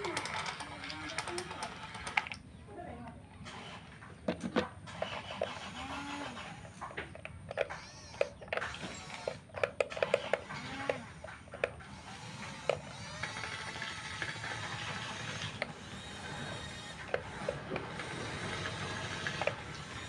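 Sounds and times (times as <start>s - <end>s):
small electric motors whining: 0.0s - 2.4s, 3.4s - 20.0s.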